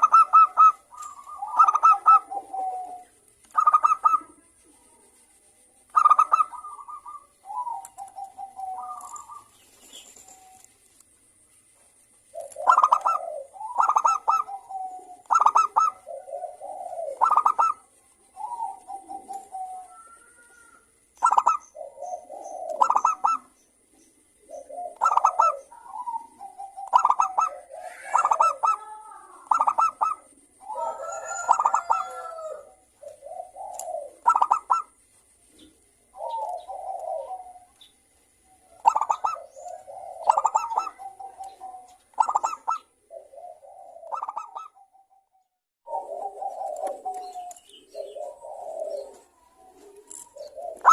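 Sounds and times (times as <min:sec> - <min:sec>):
doves cooing: 0:00.0 - 0:11.4, 0:12.1 - 0:50.9.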